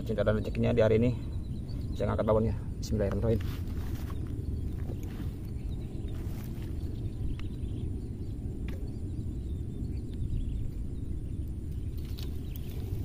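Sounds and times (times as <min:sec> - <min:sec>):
bird chirps: 0:00.0 - 0:13.0
wind buffeting microphone: 0:00.0 - 0:13.0.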